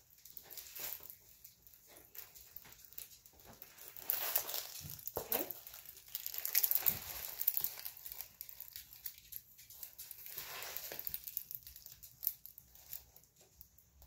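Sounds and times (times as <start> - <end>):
plastic film crinkling: 0.0 - 13.9.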